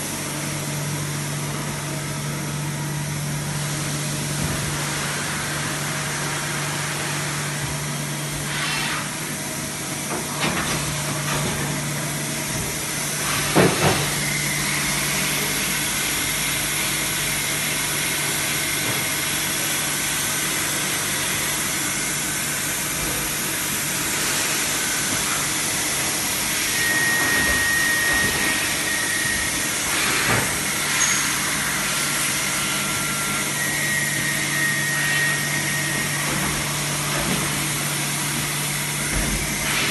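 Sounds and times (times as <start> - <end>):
industrial machinery humming: 0.0 - 39.9.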